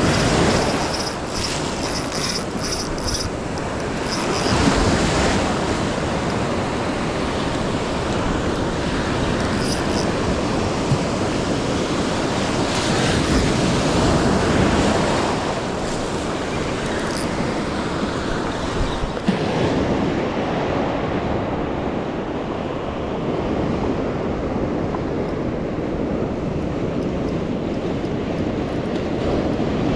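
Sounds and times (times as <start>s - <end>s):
ocean surf breaking on beach: 0.0s - 29.9s
wind buffeting microphone: 0.0s - 29.9s.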